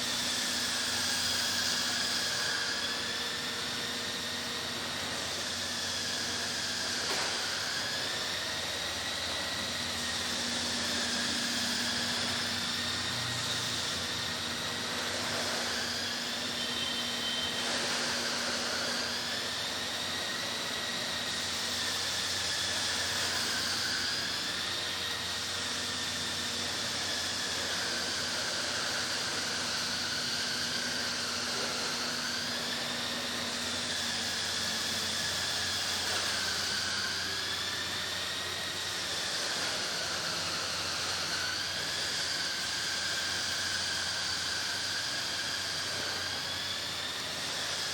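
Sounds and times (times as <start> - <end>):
electric motor whining: 0.0 - 47.9.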